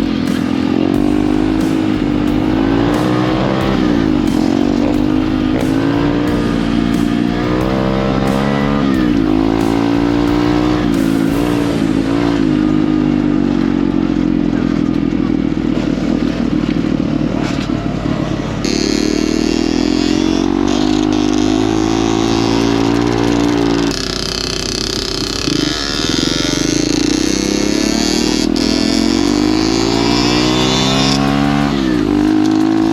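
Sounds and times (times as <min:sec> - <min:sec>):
pit bike engine revving: 0:00.0 - 0:32.9.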